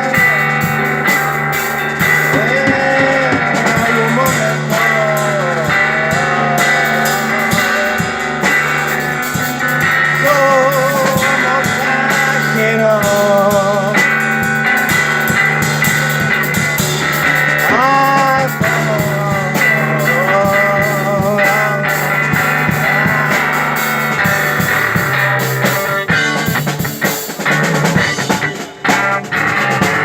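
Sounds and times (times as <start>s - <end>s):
drum hits: 0.0s - 30.0s
electric guitar melody: 0.0s - 30.0s.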